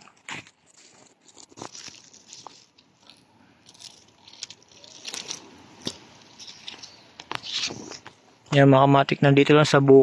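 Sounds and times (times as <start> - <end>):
dry fronds crackling and rustling: 0.0 - 8.6.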